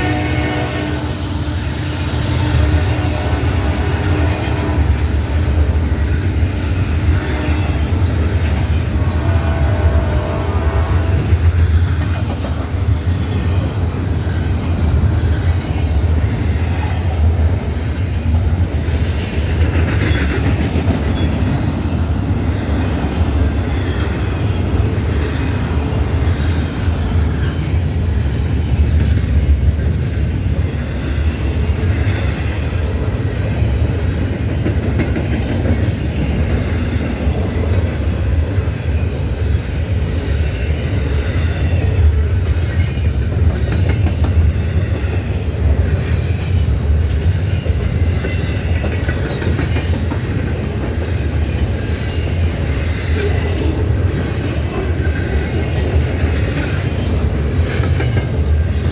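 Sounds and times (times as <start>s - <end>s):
freight train wheels rumbling on rails: 0.0s - 58.9s.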